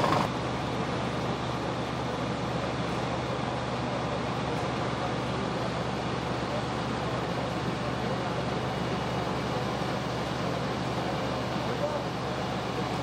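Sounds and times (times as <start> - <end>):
fire engines idling: 0.0 - 13.0.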